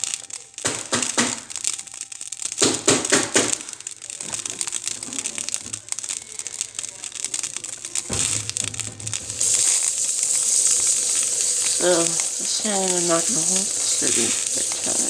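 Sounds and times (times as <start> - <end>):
coffee maker crackling and hissing: 0.0 - 15.0.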